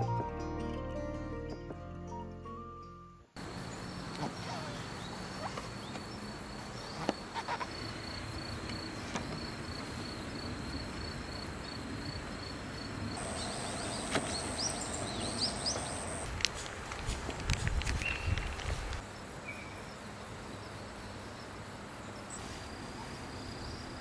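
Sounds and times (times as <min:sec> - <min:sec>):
insects trilling: 0:03.4 - 0:24.0.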